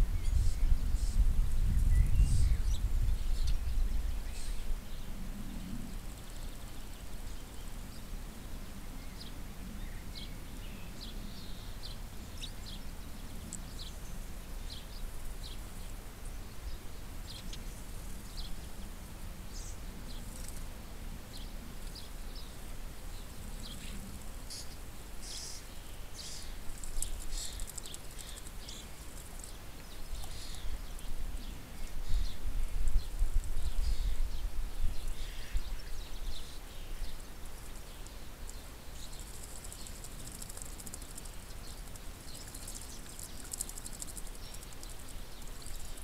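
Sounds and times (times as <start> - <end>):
steady low hiss: 0.0 - 46.0.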